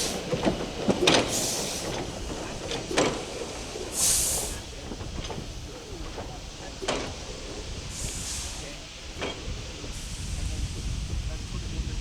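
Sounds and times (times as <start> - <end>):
steam hiss: 0.0 - 12.0
steam locomotive exhaust beats: 0.0 - 12.0.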